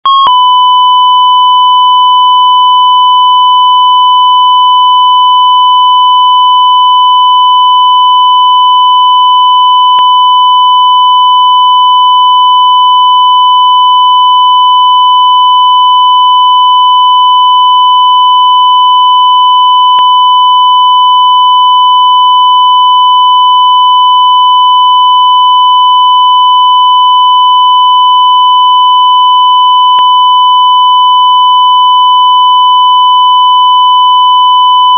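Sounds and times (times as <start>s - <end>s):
high-pitched censor bleep: 0.0s - 34.9s.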